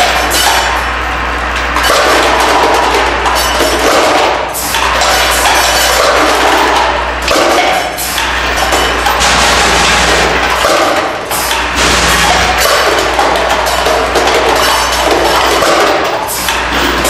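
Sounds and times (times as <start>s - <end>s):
machine low hum: 0.0s - 17.0s.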